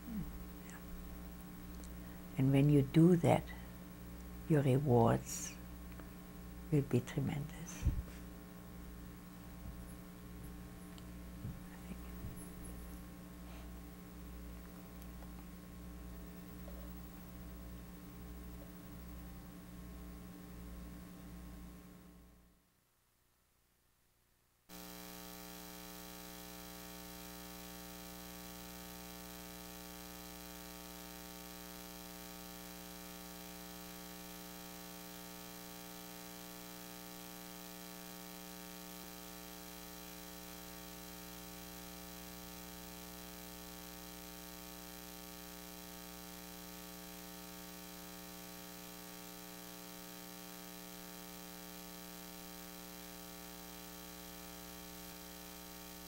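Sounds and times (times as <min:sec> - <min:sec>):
electrical mains hum and hiss: 0:00.0 - 0:56.0.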